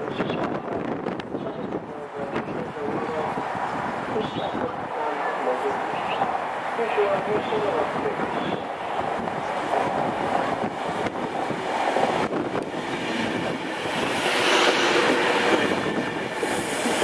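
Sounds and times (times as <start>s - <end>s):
electric train passing: 2.6s - 17.0s.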